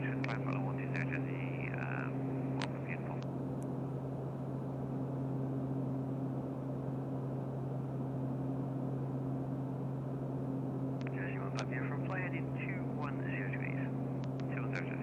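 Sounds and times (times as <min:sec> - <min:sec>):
turboprop cabin drone: 0:00.0 - 0:15.0.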